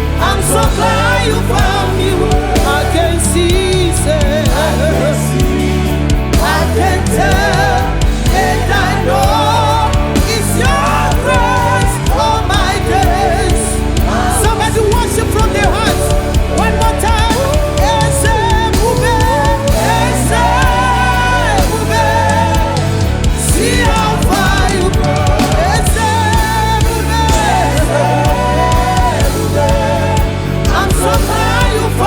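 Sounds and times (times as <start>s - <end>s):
band playing low chords: 0.0s - 32.0s.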